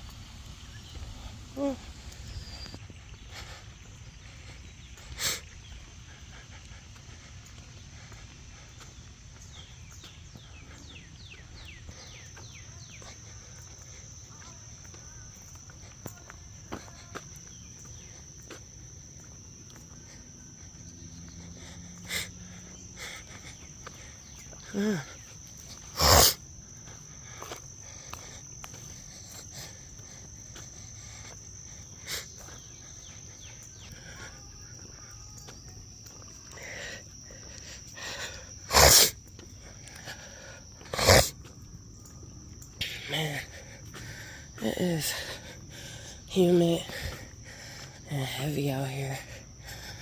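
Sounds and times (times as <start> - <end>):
high-pitched insect drone: 0.0 - 50.0
low outdoor hum: 0.0 - 50.0.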